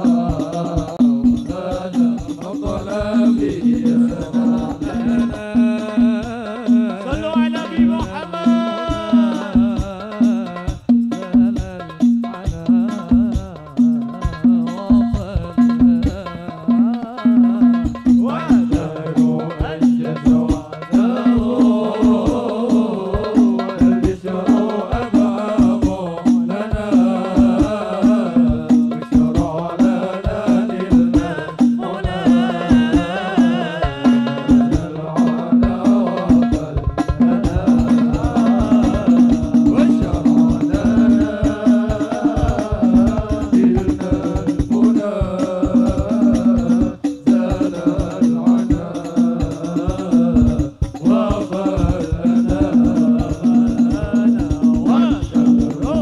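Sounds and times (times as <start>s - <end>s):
hand-struck frame drums: 0.0s - 56.0s
man singing into a microphone: 0.0s - 56.0s.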